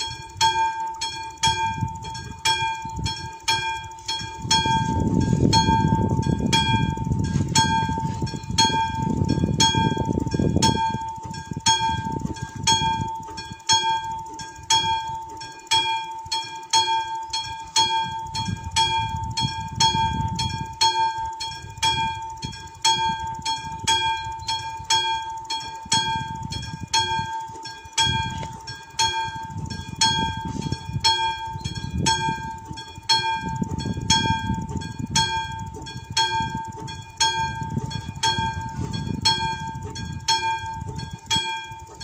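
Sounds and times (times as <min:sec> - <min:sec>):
level crossing bell ringing: 0:00.0 - 0:42.0.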